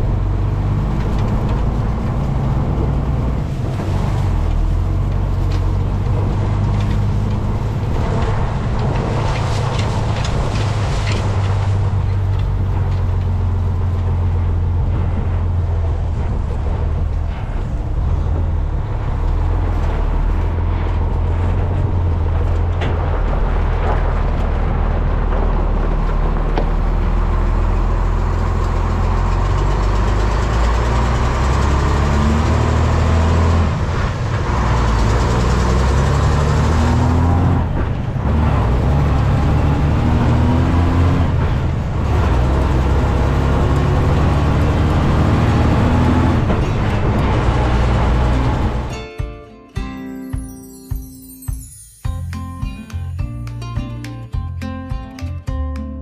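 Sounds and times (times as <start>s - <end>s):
farm machinery engine running: 0.0s - 49.0s.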